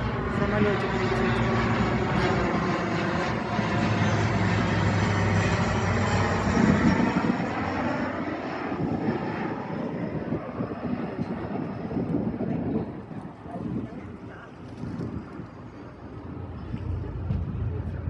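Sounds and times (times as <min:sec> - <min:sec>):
airplane engine drone: 0:00.0 - 0:18.0.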